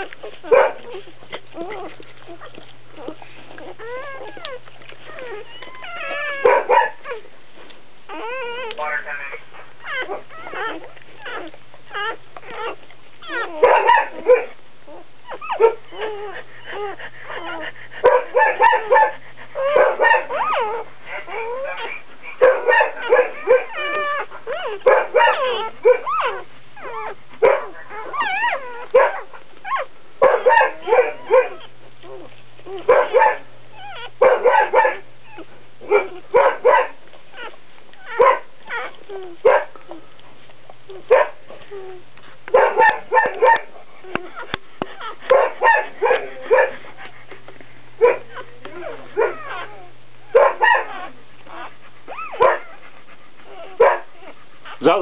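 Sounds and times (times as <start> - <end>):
dog whimpering and squealing: 0.0 - 7.3, 8.1 - 40.2, 40.9 - 55.0.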